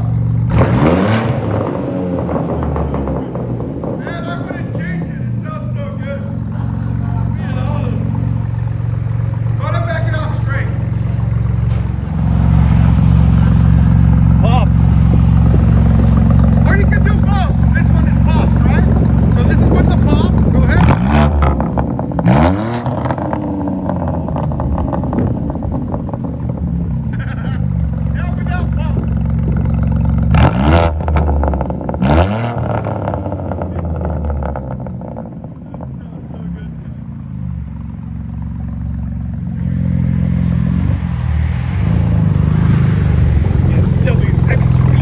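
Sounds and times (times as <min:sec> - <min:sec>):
car engine revving and idling: 0:00.0 - 0:45.0
exhaust crackles: 0:00.0 - 0:45.0.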